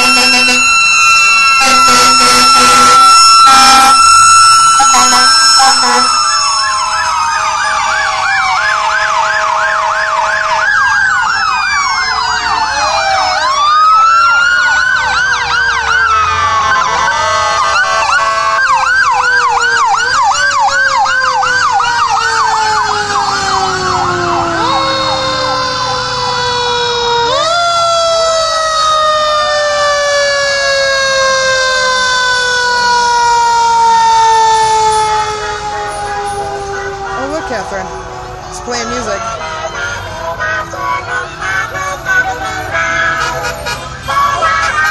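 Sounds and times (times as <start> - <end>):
fire truck sirens: 0.0 - 44.9.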